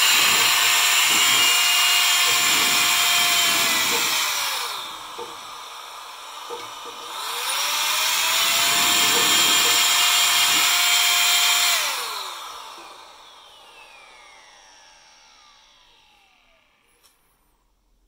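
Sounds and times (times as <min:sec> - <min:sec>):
blower motor spinning down: 0:00.0 - 0:17.0
electric air blower whining: 0:00.0 - 0:17.0.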